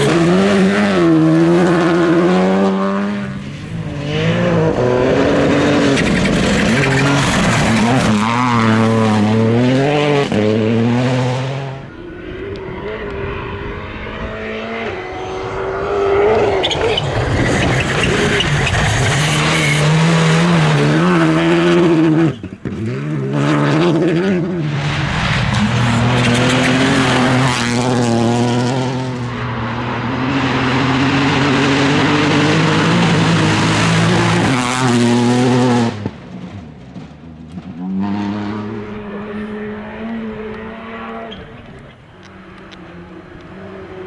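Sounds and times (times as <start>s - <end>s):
rally car engines at high revs: 0.0s - 44.0s.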